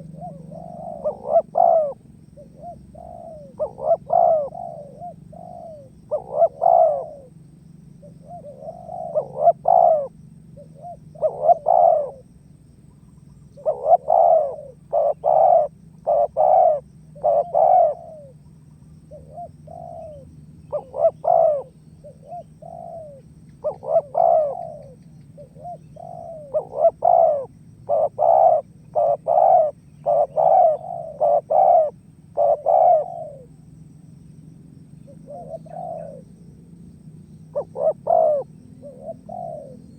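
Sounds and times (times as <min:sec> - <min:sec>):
dove cooing: 0:00.0 - 0:12.3, 0:12.9 - 0:33.7, 0:34.9 - 0:36.4, 0:37.3 - 0:39.9
faint low hum: 0:00.0 - 0:39.9.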